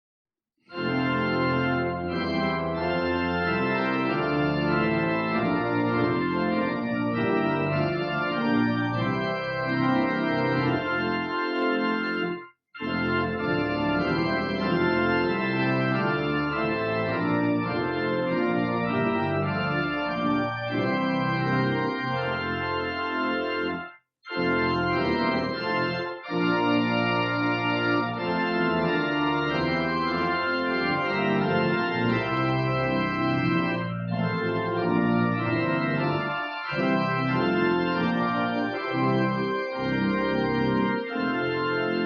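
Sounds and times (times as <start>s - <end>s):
church organ chords: 0.7s - 42.0s.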